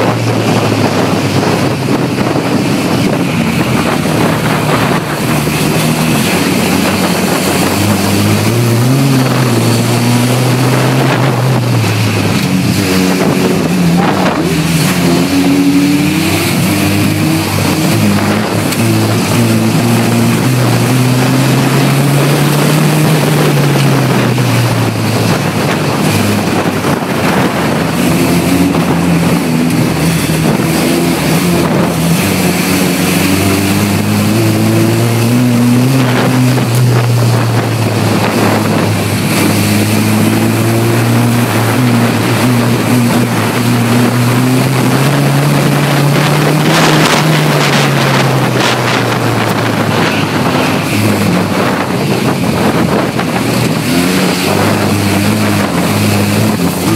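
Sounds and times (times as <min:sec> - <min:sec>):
racing car engine revving: 0:00.0 - 0:56.9
road and wind noise: 0:00.0 - 0:56.9.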